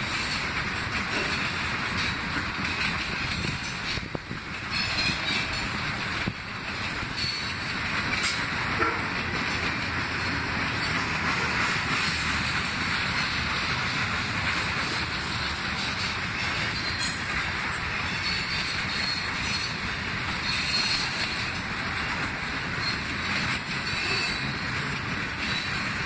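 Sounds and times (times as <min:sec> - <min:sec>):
steel wheels on rails: 0:00.0 - 0:26.0.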